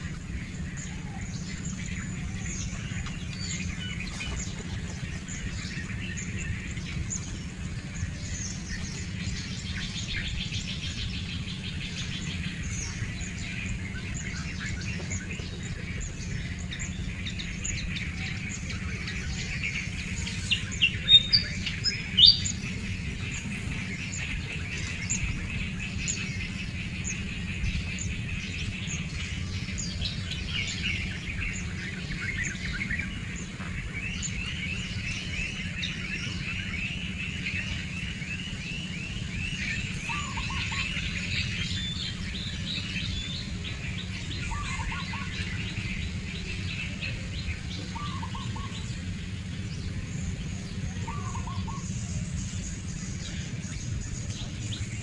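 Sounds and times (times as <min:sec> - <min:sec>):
birds chirping and singing: 0:00.0 - 0:55.0
low background rumble: 0:00.0 - 0:55.0
rapid bird trill: 0:00.0 - 0:55.0.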